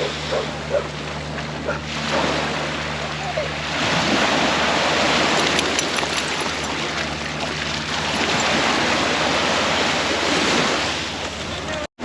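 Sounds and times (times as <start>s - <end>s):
surf washing onto beach: 0.0s - 11.9s.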